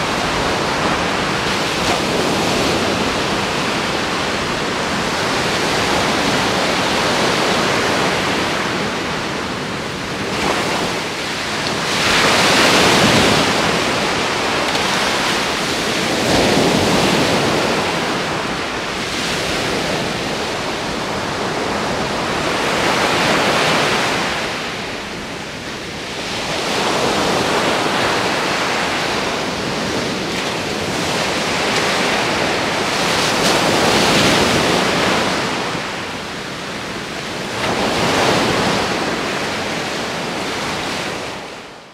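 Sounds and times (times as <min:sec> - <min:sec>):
small waves breaking on beach: 0:00.0 - 0:41.8.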